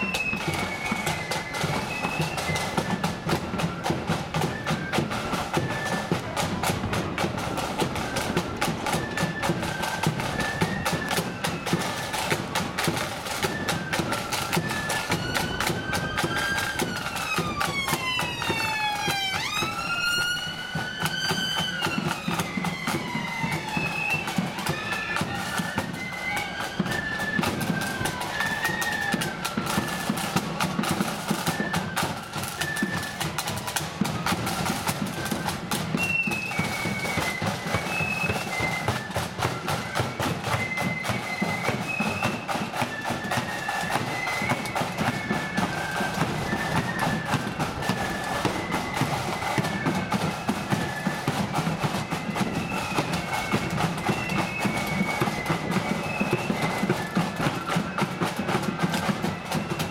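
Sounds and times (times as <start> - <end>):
flute melody: 0.0 - 59.9
side drums beating march rhythm: 0.0 - 59.9.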